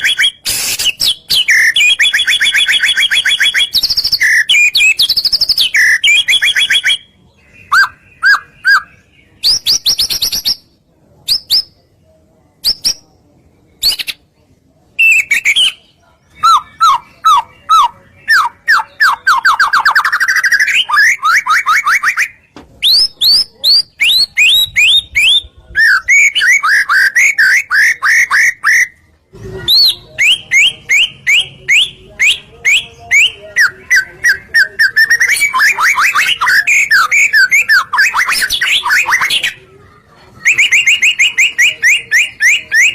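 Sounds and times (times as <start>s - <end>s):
songbird whistled song and trills: 0.0s - 11.8s, 12.6s - 13.0s, 15.0s - 29.0s, 29.7s - 39.6s, 40.4s - 42.9s.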